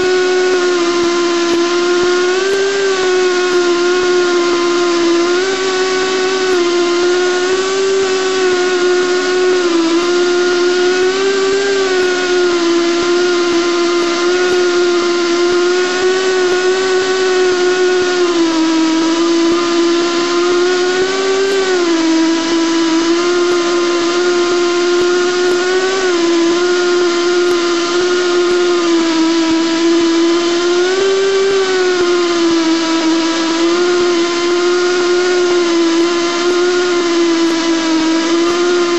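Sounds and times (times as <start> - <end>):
pipe cutting machine whining: 0.0 - 38.9.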